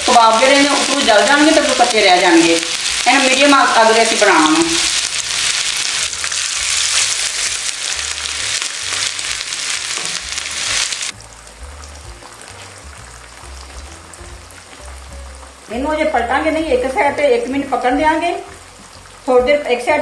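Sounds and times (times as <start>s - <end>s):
kebabs sizzling in hot oil: 0.0s - 20.0s.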